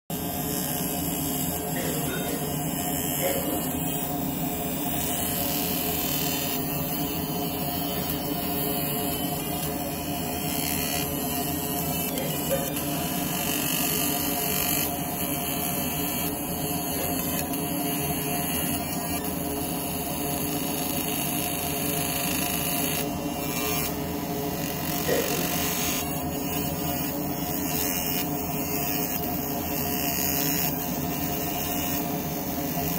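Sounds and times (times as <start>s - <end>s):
laser engraver buzzing: 0.1s - 32.9s.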